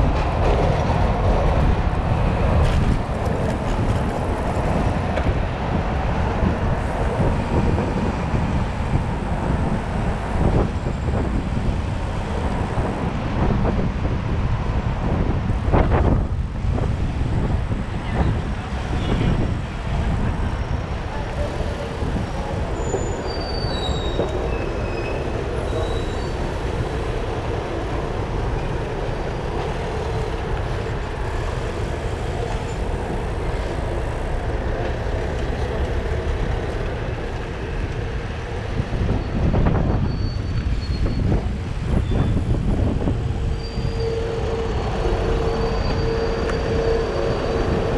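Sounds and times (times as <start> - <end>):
wind on microphone: 0.0 - 34.7, 36.4 - 47.9
road noise rumble: 0.0 - 47.9.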